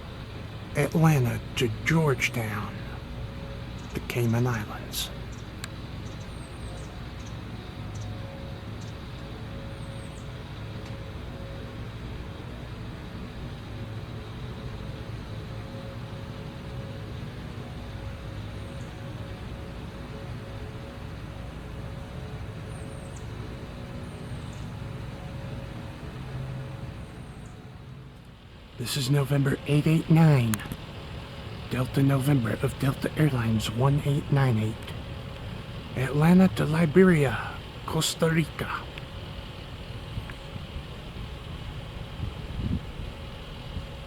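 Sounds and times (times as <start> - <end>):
distant traffic rumble: 0.0 - 44.0
faint hum: 0.0 - 44.0.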